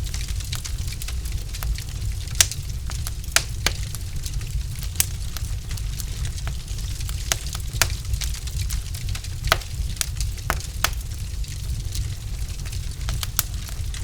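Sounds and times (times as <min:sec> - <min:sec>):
burning logs popping: 0:00.0 - 0:14.0
wood fire crackling: 0:00.0 - 0:14.0.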